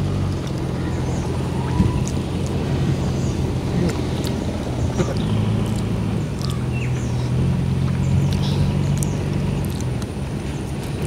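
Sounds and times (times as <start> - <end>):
birds chirping: 0.0 - 11.0
low engine drone: 0.0 - 11.0.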